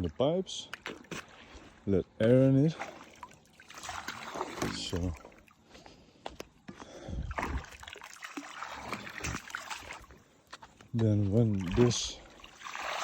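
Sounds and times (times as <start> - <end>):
water splashing and gurgling: 0.6 - 1.8, 2.5 - 5.8, 6.8 - 13.0.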